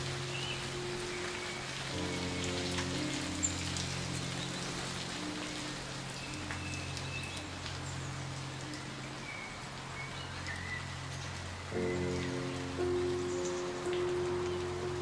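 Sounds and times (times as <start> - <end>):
ambient music pad: 0.0 - 15.0
rain falling: 0.0 - 15.0.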